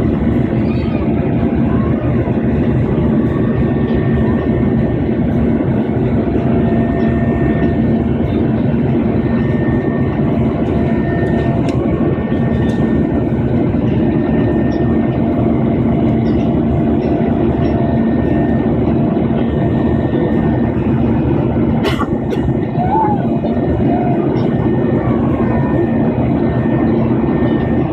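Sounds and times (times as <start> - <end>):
airliner engines droning in cabin: 0.0 - 27.9.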